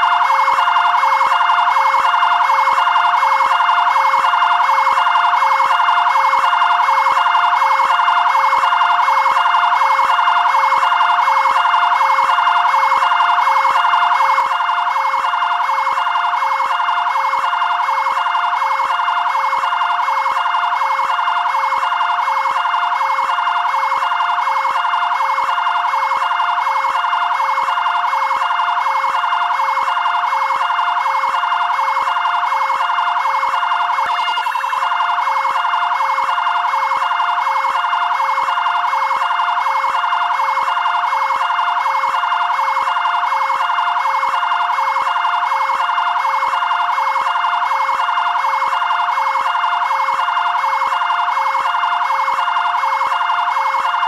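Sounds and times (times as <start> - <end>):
two-tone siren: 0.0 - 54.0.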